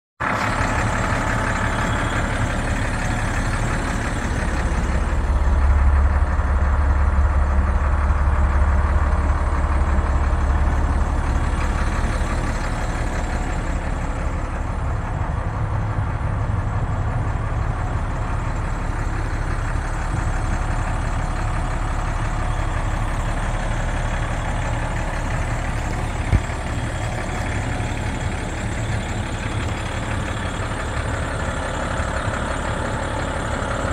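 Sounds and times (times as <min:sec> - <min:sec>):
truck engine idling: 0:00.2 - 0:33.9.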